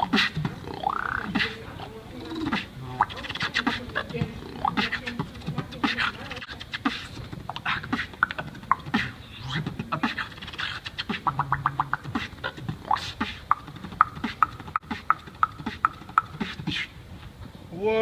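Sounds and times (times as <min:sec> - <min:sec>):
human beatboxing: 0:00.0 - 0:17.0.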